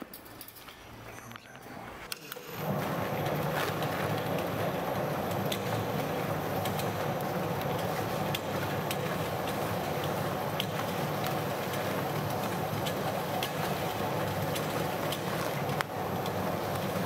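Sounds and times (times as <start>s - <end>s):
machine mechanical hum: 0.0s - 17.0s.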